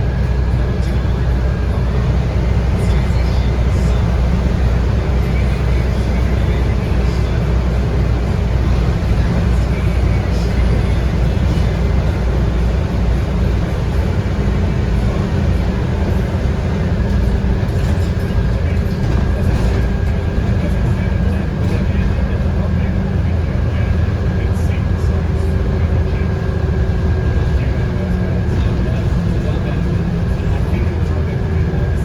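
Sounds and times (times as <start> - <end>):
bus diesel engine drone: 0.0 - 32.0.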